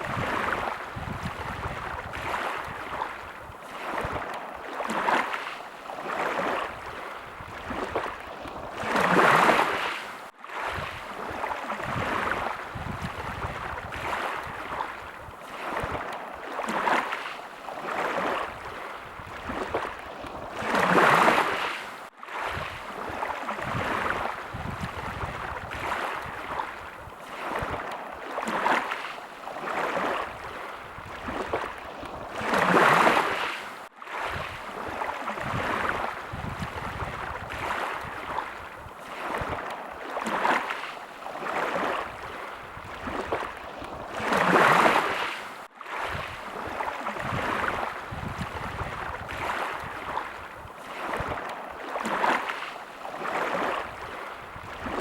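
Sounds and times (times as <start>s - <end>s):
bigger wave surging: 0.0s - 55.0s
small sea waves washing in: 0.0s - 55.0s.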